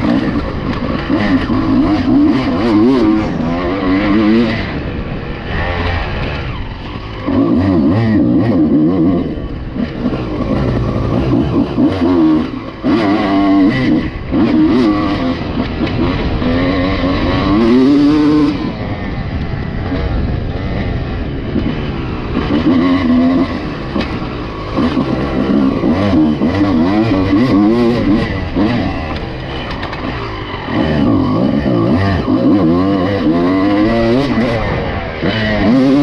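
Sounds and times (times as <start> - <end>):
motocross bike engine revving: 0.0 - 36.0.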